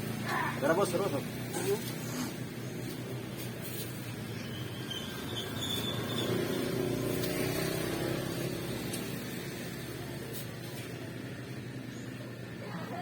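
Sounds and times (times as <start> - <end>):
engine running: 0.0 - 12.6.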